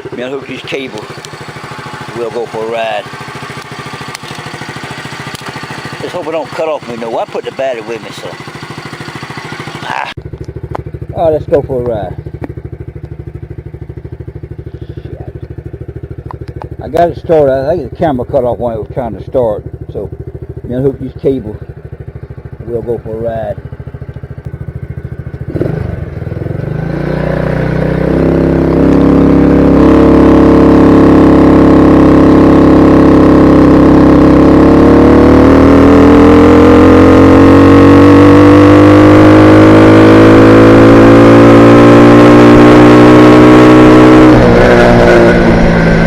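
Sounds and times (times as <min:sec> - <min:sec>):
moped engine revving: 0:00.0 - 0:46.0.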